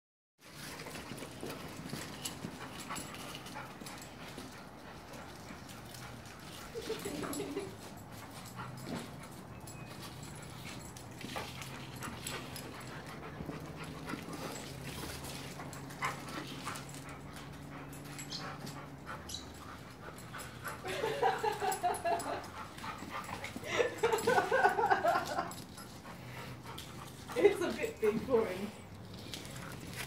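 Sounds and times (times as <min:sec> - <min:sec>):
dogs scuffling: 0:00.4 - 0:30.0
paws clicking on paving: 0:00.4 - 0:30.0.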